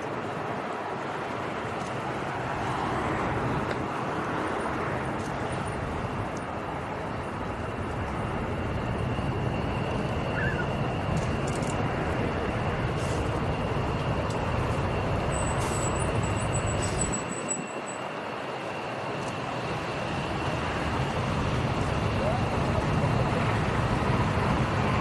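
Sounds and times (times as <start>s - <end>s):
engine rumble and hiss: 0.0s - 25.0s
faint high whine: 0.0s - 25.0s.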